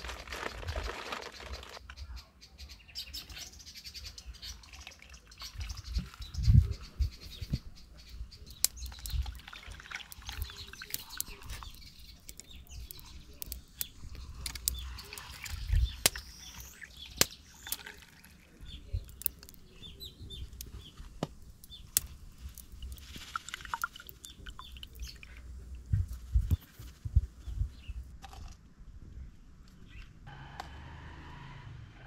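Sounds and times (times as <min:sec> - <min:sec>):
birds chirping and calling: 0:00.3 - 0:28.1.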